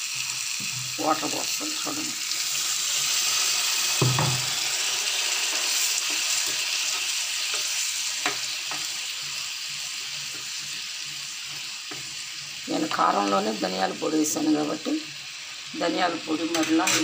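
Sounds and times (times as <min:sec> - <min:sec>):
curry sizzling and bubbling in a pan: 0:00.0 - 0:17.0.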